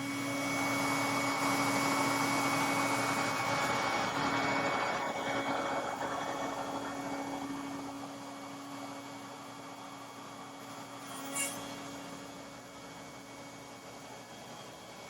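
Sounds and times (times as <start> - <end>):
steady hum: 0.0 - 15.0
woodworking machine rushing: 0.0 - 15.0.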